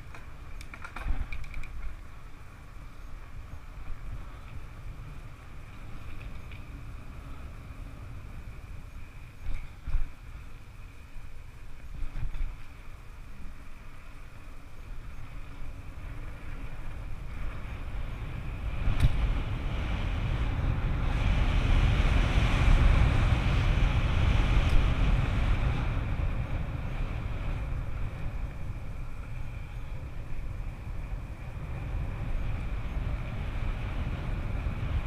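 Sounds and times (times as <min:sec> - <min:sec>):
mountain bike rumbling on dirt: 0:00.0 - 0:35.0
wind buffeting microphone: 0:00.0 - 0:35.0.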